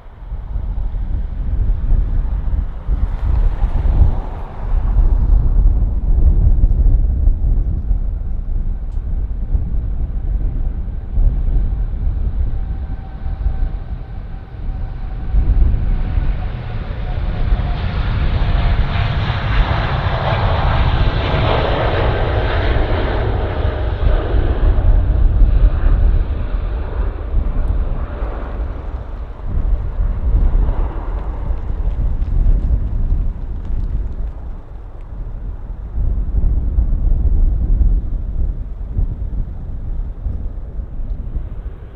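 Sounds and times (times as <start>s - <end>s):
jet airliner engines passing: 0.0s - 41.9s
wind rumble on microphone: 0.0s - 41.9s.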